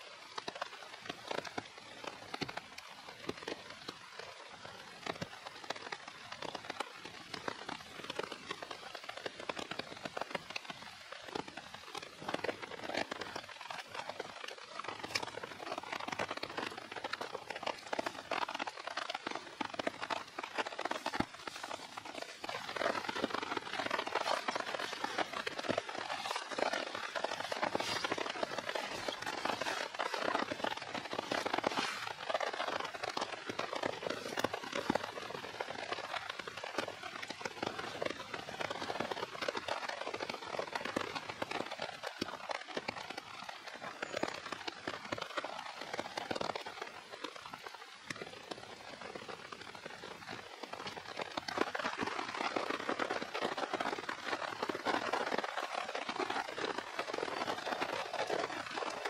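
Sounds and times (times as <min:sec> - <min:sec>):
rain falling on a tarp: 0:00.0 - 0:59.0.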